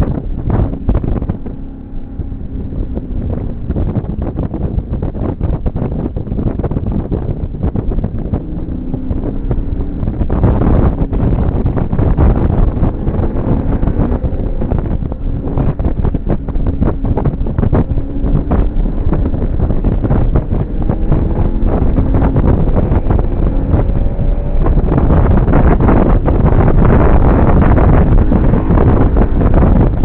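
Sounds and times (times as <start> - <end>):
car engine running: 0.0 - 30.0
wind buffeting microphone: 0.0 - 30.0.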